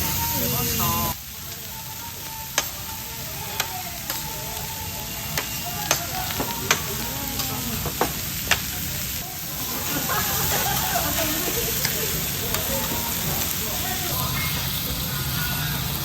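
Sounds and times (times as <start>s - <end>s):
meat sizzling on hot plate: 0.0s - 16.0s.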